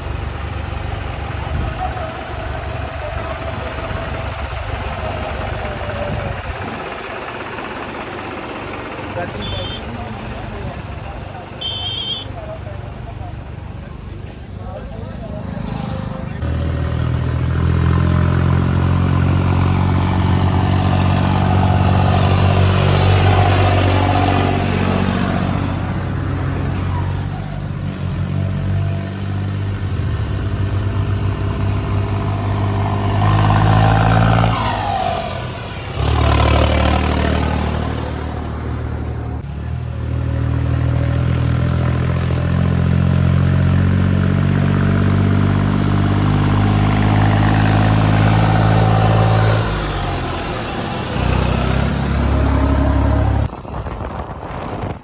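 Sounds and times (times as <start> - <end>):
heavy engines running: 0.0 - 55.0.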